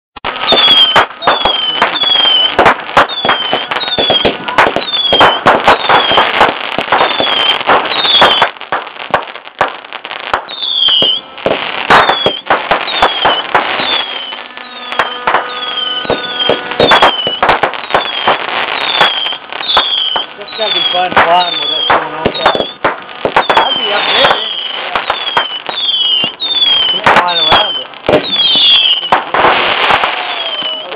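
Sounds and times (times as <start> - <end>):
fireworks crackling bangs: 0.2 - 30.9
fireworks whistling: 0.2 - 30.9.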